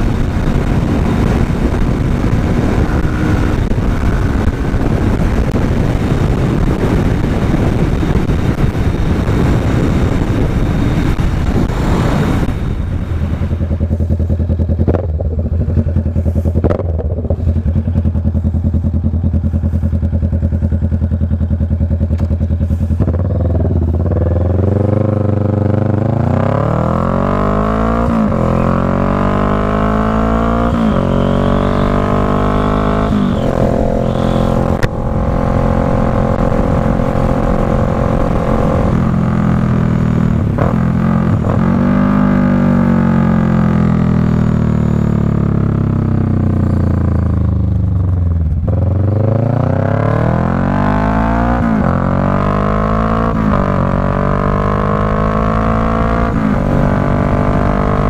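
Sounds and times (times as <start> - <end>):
motorcycle engine: 0.0 - 58.0
wind rush at highway speed: 0.0 - 58.0.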